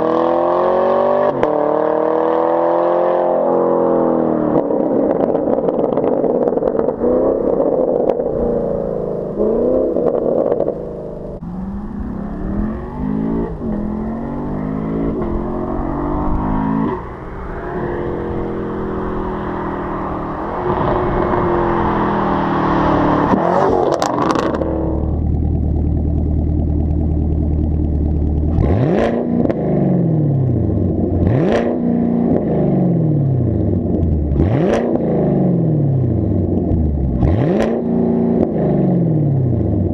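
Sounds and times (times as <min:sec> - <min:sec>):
car engine revving and idling: 0:00.0 - 0:39.9.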